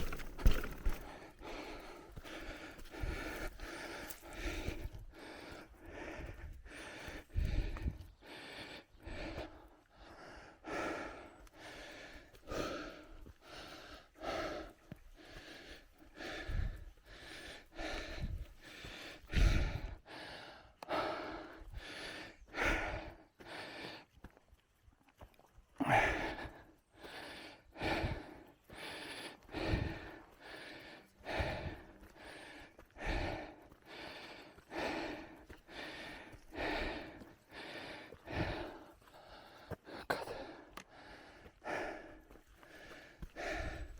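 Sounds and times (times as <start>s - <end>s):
person breathing hard: 0.0s - 24.4s, 25.8s - 43.9s.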